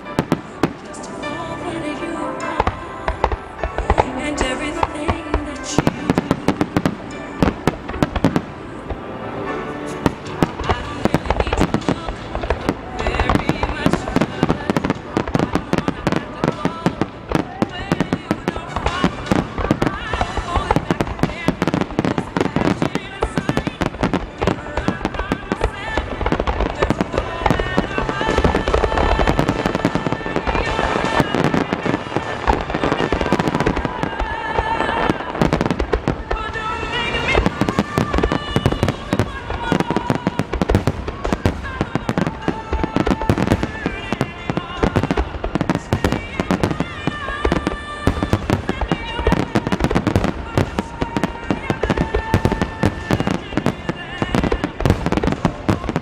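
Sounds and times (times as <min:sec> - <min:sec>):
fireworks bursting: 0:00.0 - 0:56.0
music playing: 0:00.0 - 0:56.0.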